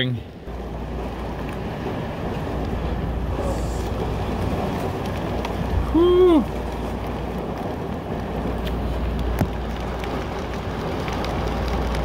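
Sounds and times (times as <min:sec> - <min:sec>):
heavy wind-driven rain: 0:00.0 - 0:12.0.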